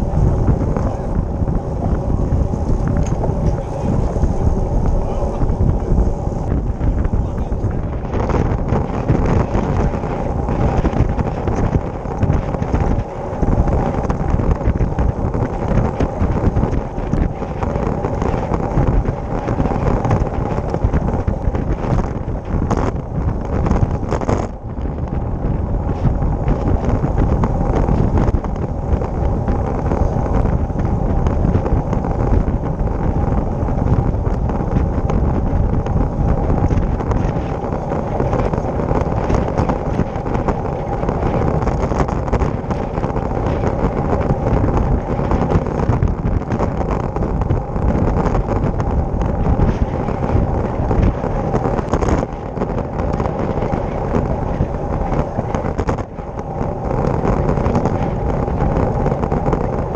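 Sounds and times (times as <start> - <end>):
bike tyre and road noise: 0.0 - 59.9
wind buffeting microphone: 0.0 - 59.9.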